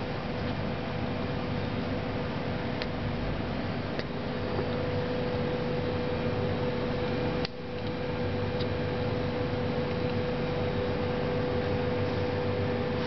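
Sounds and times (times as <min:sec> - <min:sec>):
fridge hum and hiss: 0:00.0 - 0:13.0.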